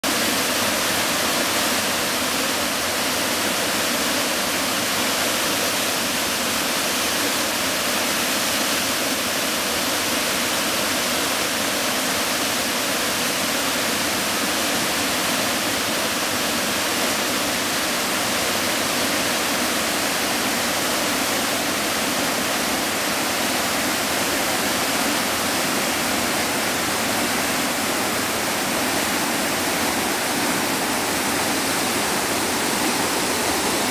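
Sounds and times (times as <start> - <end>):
whitewater rushing over rocks: 0.0 - 33.9.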